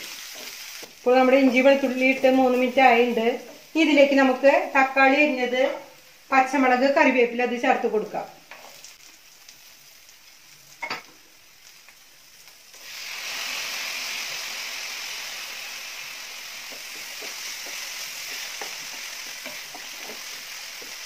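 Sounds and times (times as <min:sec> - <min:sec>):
loud steady sizzle: 0:00.0 - 0:21.0
onion frying in oil: 0:00.0 - 0:21.0.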